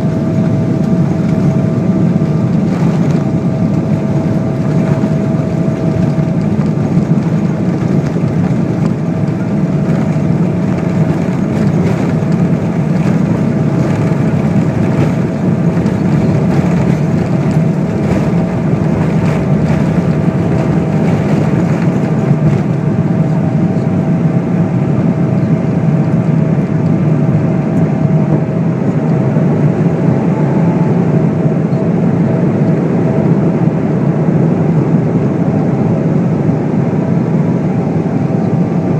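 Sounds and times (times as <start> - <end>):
airflow noise: 0.0 - 33.2
faint engine whine: 0.0 - 38.9
jet engines rumbling: 0.0 - 38.9.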